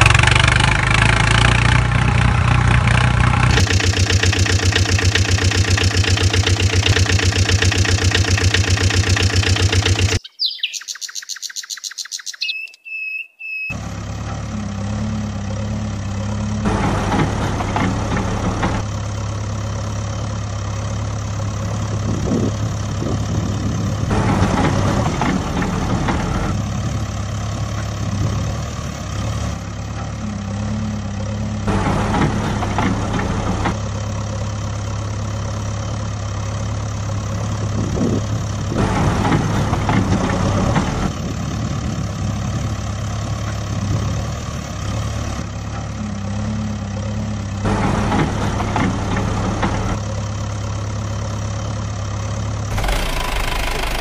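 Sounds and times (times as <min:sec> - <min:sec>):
engine revving: 0:00.0 - 0:10.2, 0:13.7 - 0:34.1, 0:34.7 - 0:50.8, 0:52.7 - 0:54.0
heavy machine engine idling: 0:00.0 - 0:10.2, 0:13.7 - 0:54.0.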